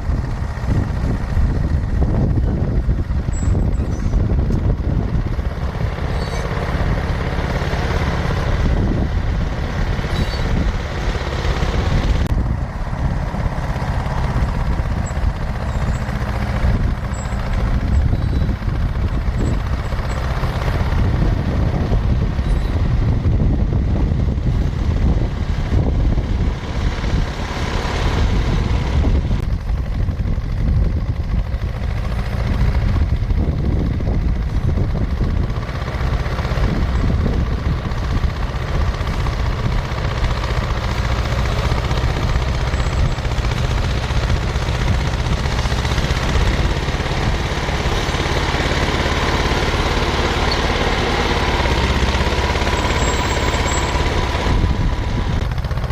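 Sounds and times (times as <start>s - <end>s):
bulldozer engine rumbling: 0.0s - 55.9s.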